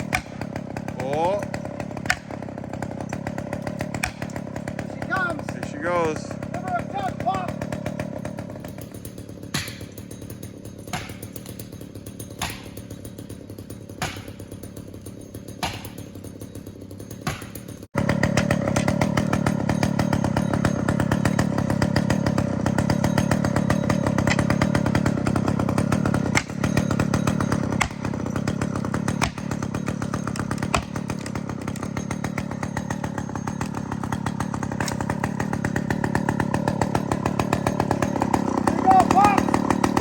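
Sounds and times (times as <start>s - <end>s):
chainsaw running: 0.0s - 40.0s.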